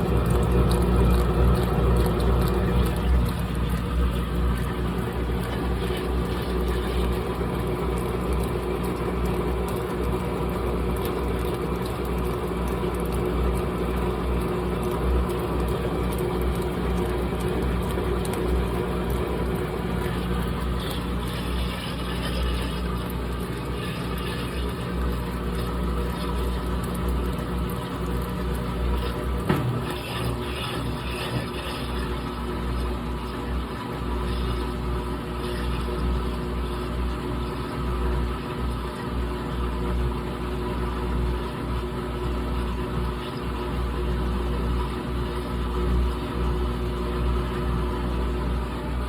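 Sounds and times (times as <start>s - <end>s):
washing machine drum churning: 0.0s - 49.0s
washing machine motor hum: 0.0s - 49.0s.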